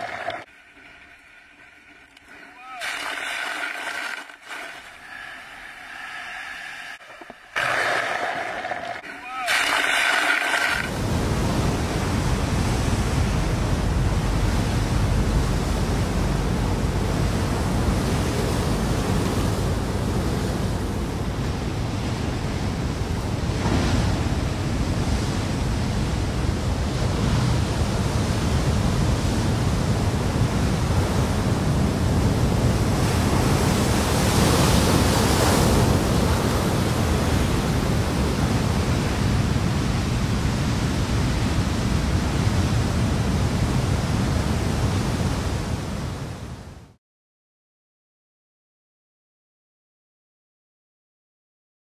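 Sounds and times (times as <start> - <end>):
ocean surf breaking on rocks: 0.0 - 46.1.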